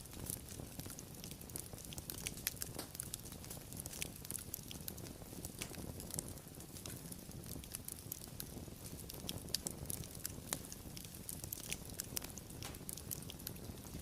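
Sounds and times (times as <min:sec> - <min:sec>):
low rumble of flames: 0:00.0 - 0:14.0
wood fire popping and snapping: 0:00.0 - 0:14.0.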